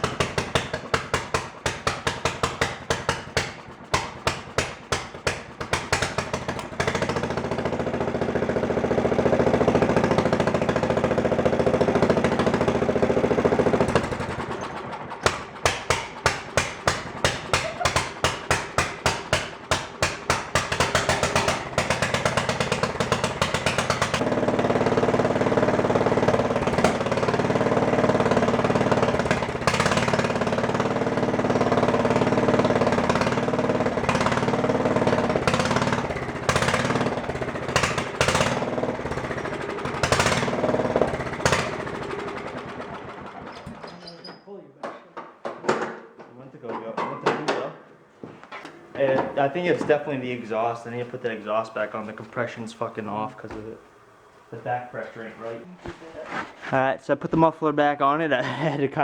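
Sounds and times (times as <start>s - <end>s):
mower engine popping and running: 0.0s - 44.3s, 47.1s - 56.7s.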